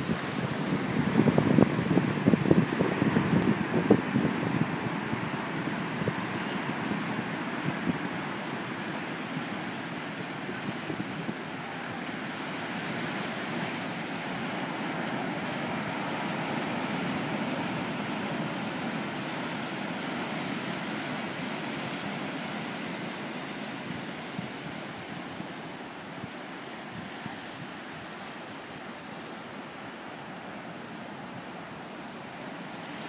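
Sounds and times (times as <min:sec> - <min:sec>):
waves breaking on rocks: 0:00.0 - 0:33.0.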